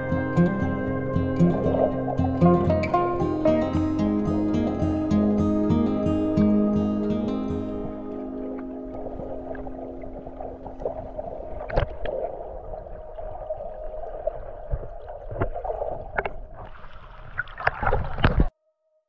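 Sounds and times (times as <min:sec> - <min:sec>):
muffled underwater water movement: 0:00.0 - 0:18.5
water splashing: 0:00.0 - 0:18.5.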